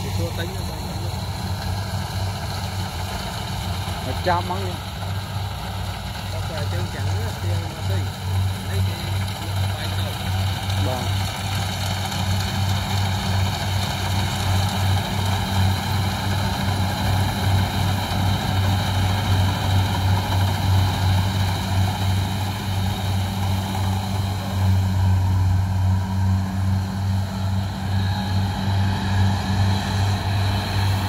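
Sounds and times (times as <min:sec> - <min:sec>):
high whine: 0:00.0 - 0:31.0
low engine drone: 0:00.0 - 0:31.0.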